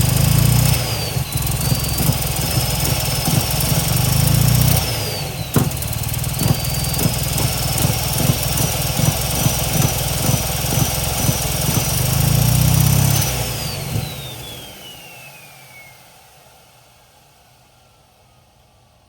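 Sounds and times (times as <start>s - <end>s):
engine running rough: 0.0s - 15.6s
faint high turbo whine: 0.0s - 19.0s.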